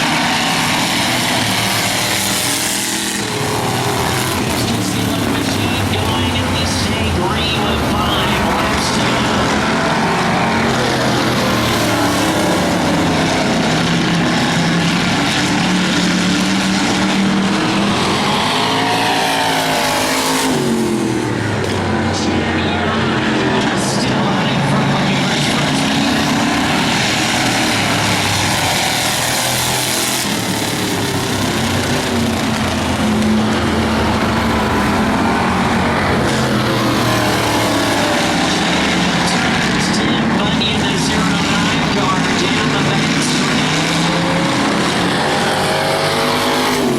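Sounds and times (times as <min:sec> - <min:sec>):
race car engines revving: 0:00.0 - 0:46.9.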